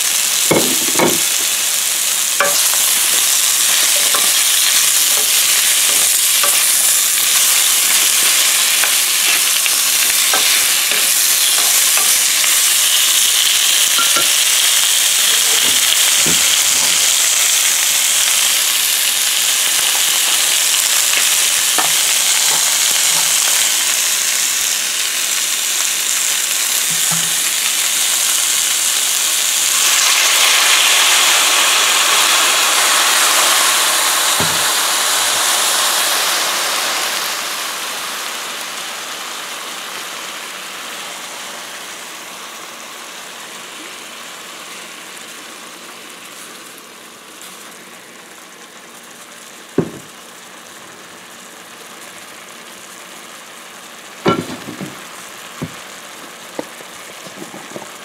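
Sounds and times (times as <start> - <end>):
onions sizzling in hot oil: 0.0 - 58.0.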